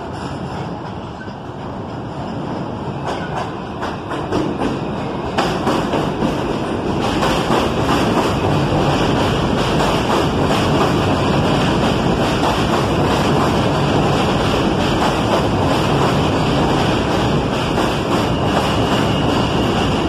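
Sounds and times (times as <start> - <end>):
subway train wheels on rails: 0.0 - 20.0.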